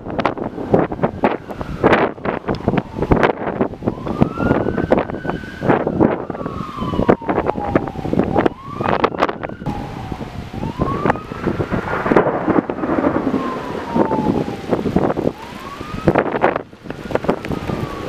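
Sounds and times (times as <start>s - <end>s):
gusty wind: 0.0s - 18.0s
siren wailing: 0.0s - 18.0s.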